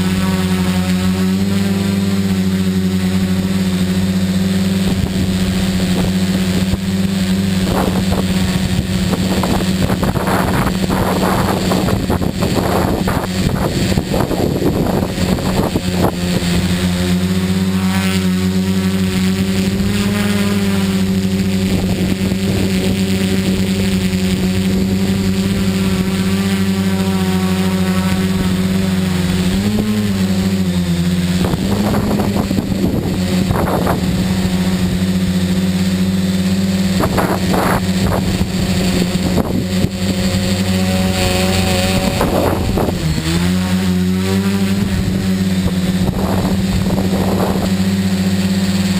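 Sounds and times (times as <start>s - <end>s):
drone motors humming: 0.0s - 48.9s.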